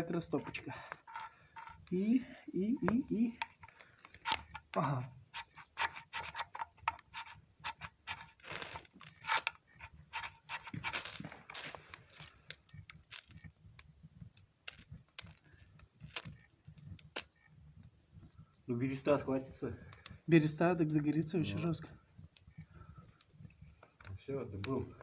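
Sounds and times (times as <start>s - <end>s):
striker scraping fire starter: 0.0s - 25.0s.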